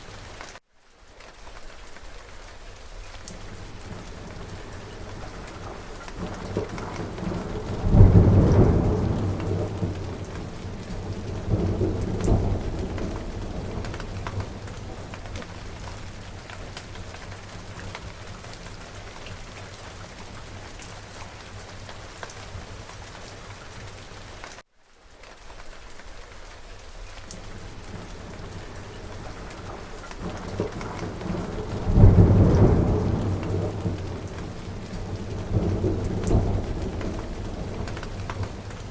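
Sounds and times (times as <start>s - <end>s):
steady rain: 0.0s - 38.9s
thunderclap and rumble: 3.3s - 24.0s, 27.4s - 38.9s.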